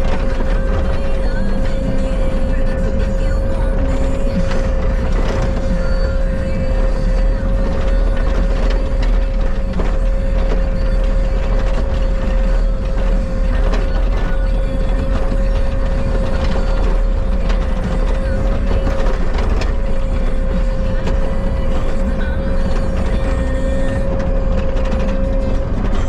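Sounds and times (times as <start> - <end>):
machine rattles and clanks: 0.0 - 26.0
skid steer engine rumble: 0.0 - 26.0.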